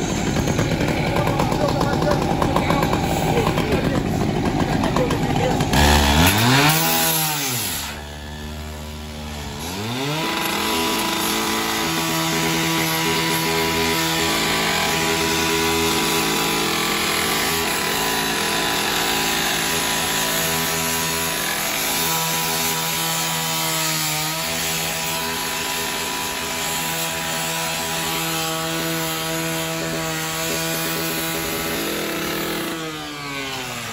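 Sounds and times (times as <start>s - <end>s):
rescue saw cutting metal: 0.0s - 33.9s.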